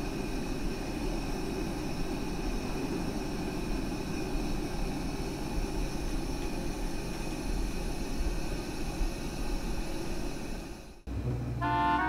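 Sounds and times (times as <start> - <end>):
fan heater whooshing hum: 0.0 - 12.0.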